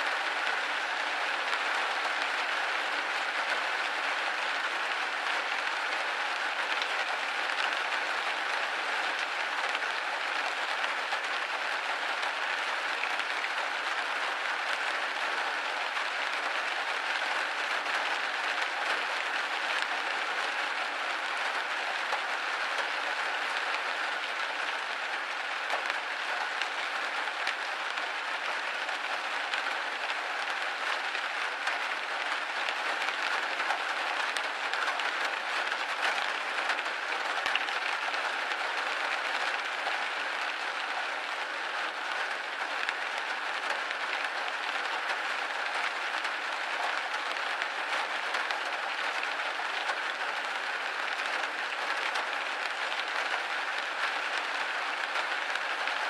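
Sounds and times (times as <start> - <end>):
rain on a window pane: 0.0 - 56.0.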